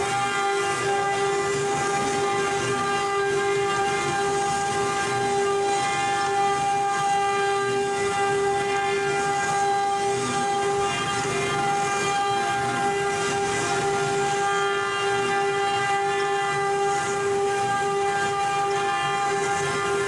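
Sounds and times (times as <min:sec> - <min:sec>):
router spindle whine: 0:00.0 - 0:20.0.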